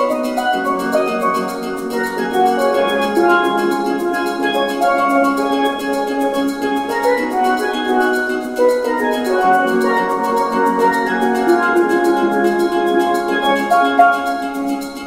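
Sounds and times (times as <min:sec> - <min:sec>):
melody of pitched notes: 0:00.0 - 0:15.0
quick percussion beat: 0:00.0 - 0:15.0.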